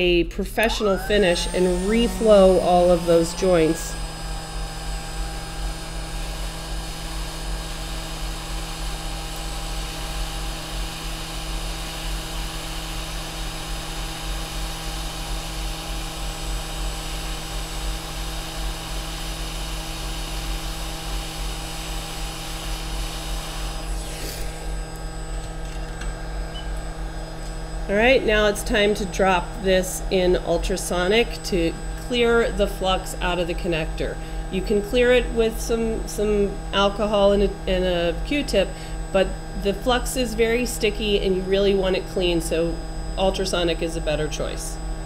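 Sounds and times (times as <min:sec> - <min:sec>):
steady hum: 0:00.0 - 0:45.0
hot air blowing: 0:00.6 - 0:37.4, 0:38.5 - 0:40.5.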